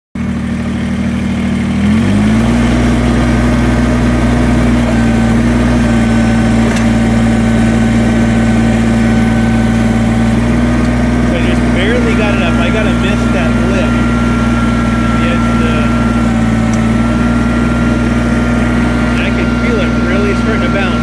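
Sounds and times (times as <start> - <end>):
tractor diesel engine running: 0.2 - 21.0.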